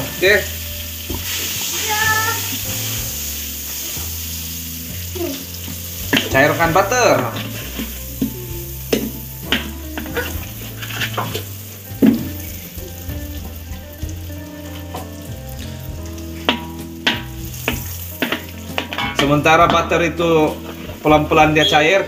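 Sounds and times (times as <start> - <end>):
butter sizzling in a wok: 0.0 - 22.0
wooden spoon scraping a pan: 0.1 - 21.7.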